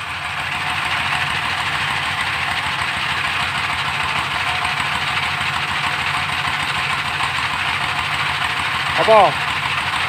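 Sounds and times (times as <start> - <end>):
diesel engine running steadily: 0.0 - 10.0.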